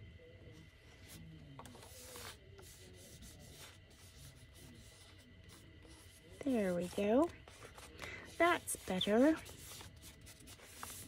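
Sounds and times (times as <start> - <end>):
hands rubbing paper: 1.8 - 11.0.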